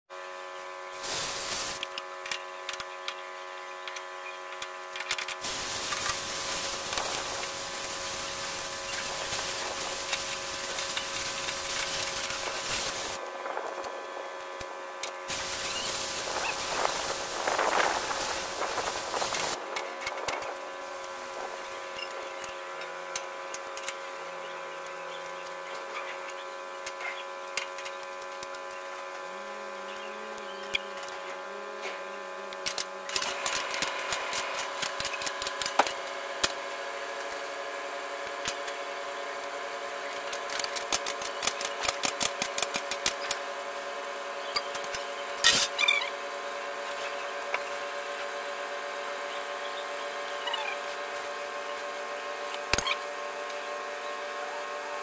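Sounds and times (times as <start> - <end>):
steady machine hum: 0.1 - 55.0.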